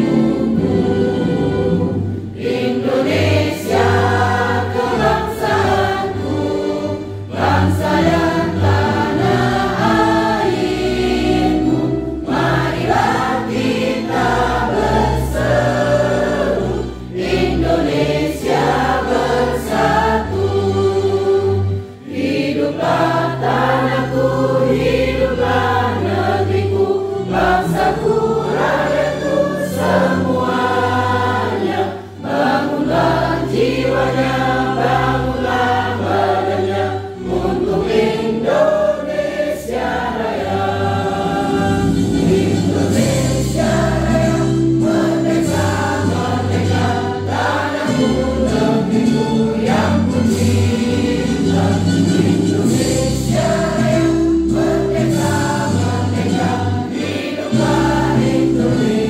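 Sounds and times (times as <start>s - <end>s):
group singing: 0.0s - 59.0s
instrumental accompaniment with bass: 0.0s - 59.0s.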